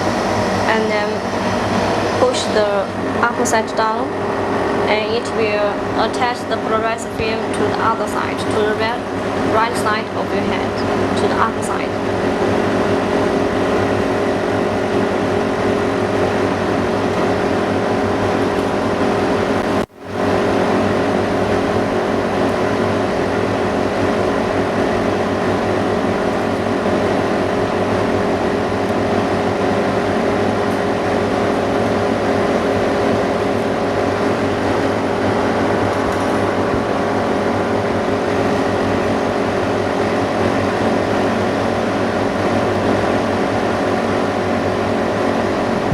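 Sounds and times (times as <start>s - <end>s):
workshop machinery humming: 0.0s - 45.9s.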